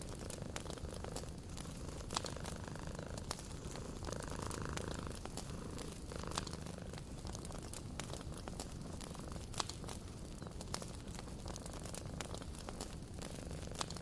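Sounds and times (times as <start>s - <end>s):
cat purring: 0.0s - 14.0s
wood fire crackling: 0.0s - 14.0s.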